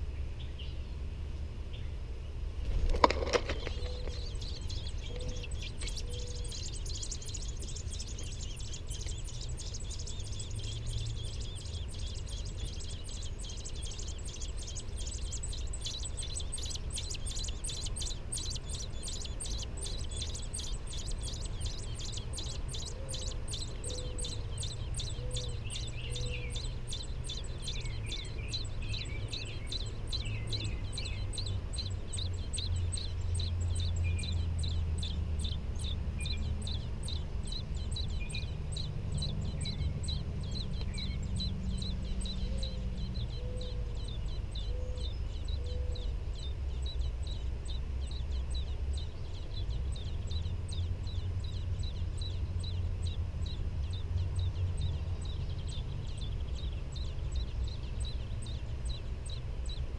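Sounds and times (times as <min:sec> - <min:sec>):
nestlings peeping: 0:00.0 - 0:59.9
low chirps: 0:02.8 - 0:59.9.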